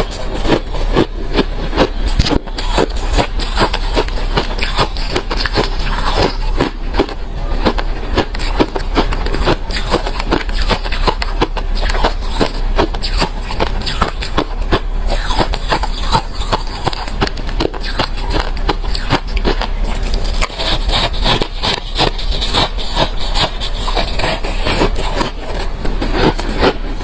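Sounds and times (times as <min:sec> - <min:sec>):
crushed ice being chewed: 0:00.0 - 0:27.0.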